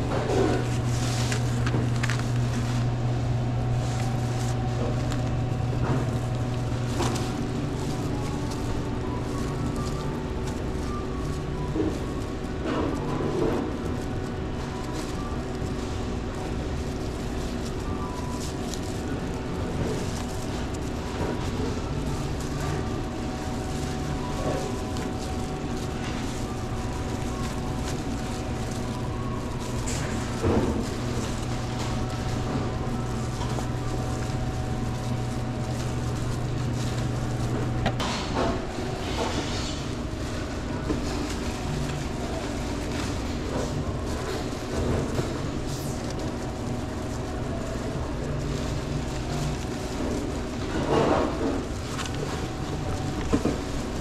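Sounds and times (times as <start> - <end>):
handling knocks and rustles: 0.0 - 54.0
low mechanical rumble and hum: 0.0 - 54.0.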